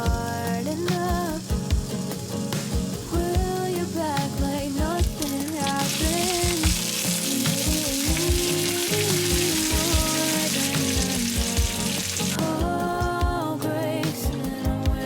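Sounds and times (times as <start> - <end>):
food sizzling in a frying pan: 0.0 - 14.9
background music with beat: 0.0 - 15.0.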